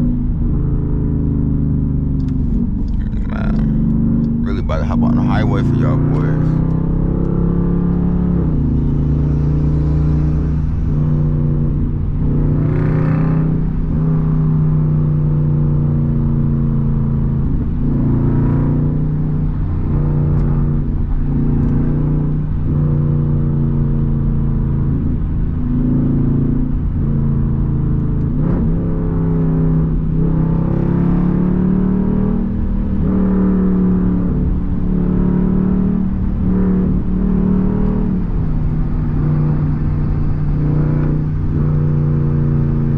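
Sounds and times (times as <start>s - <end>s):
car exhaust droning under acceleration: 0.0s - 42.9s.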